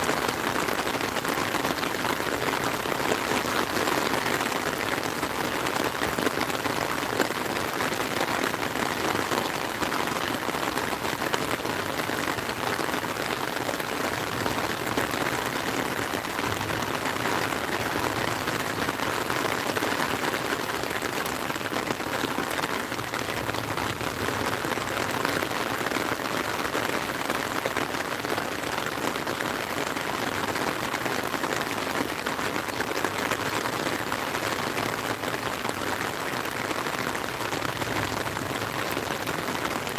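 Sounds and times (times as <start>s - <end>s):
rain on an umbrella: 0.0s - 39.9s
rain on lake water: 0.0s - 39.9s.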